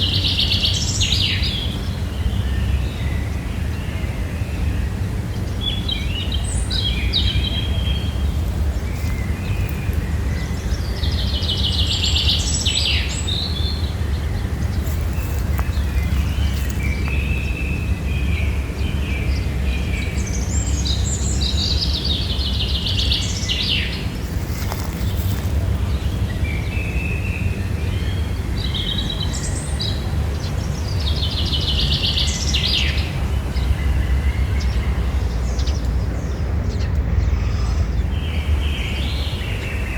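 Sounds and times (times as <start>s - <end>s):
songbird chirping with trill: 0.0s - 39.9s.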